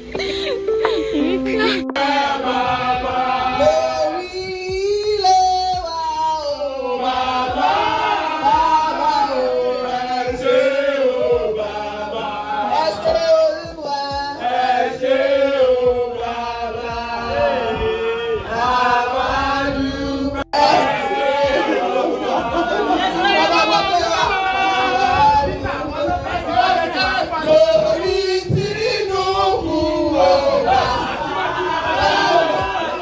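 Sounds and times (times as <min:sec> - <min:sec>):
group singing in chorus: 0:01.6 - 0:05.0, 0:06.3 - 0:33.0.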